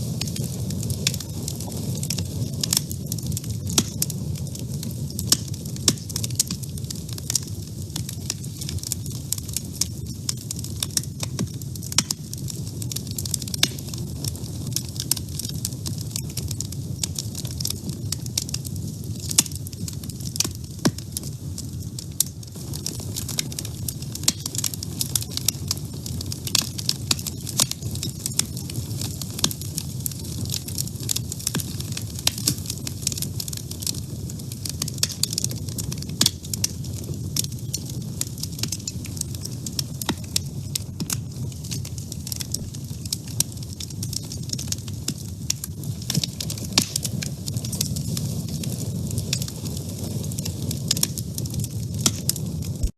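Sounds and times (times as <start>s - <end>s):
fire rumbling: 0.0s - 52.9s
wood crackling and popping: 0.0s - 52.9s.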